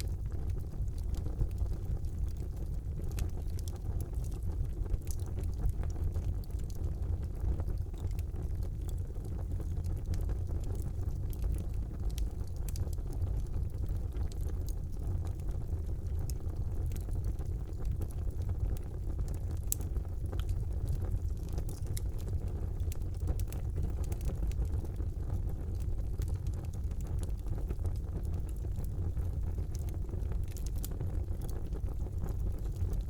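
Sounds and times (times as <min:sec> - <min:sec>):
fire crackles and pops: 0:00.0 - 0:33.0
low rumble of flames: 0:00.0 - 0:33.0.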